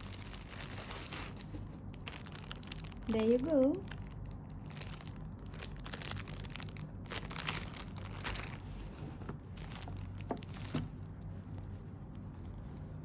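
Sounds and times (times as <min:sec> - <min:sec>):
faint low hum: 0:00.0 - 0:13.0
packaging rustling and crinkling: 0:00.0 - 0:13.0.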